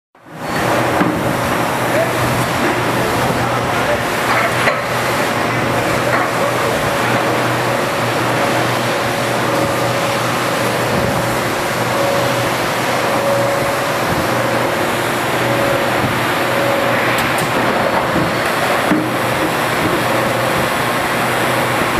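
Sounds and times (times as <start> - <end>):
industrial machinery running: 0.2 - 21.9.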